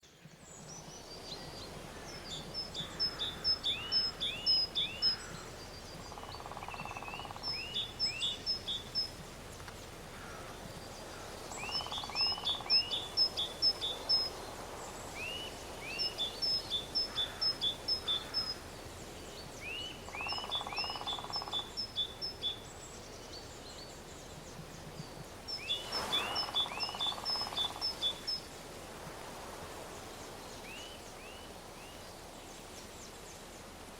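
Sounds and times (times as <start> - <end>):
songbird singing: 0.0 - 33.7
steady outdoor hiss: 0.0 - 33.9.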